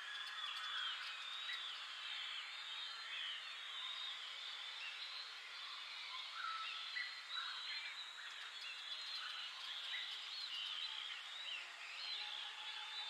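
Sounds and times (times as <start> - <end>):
small birds singing and chirping: 0.0 - 13.0.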